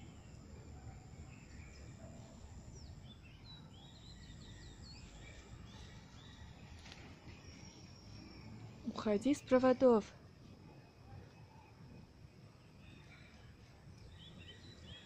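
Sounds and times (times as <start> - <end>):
small birds chirping: 0.0 - 10.1, 10.7 - 15.0.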